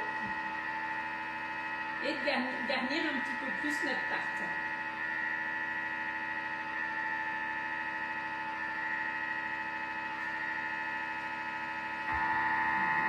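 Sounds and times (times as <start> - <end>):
kitchen machine motor whining: 0.0 - 13.0.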